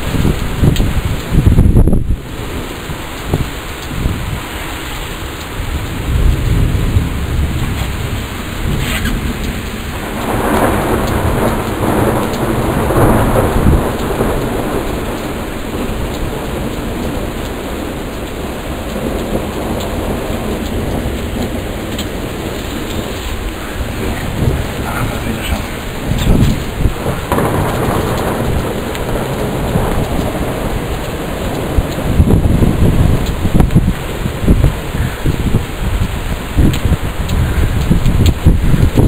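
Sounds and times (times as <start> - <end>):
heavy rain: 0.0 - 39.0
thunder rumbling: 0.0 - 39.0.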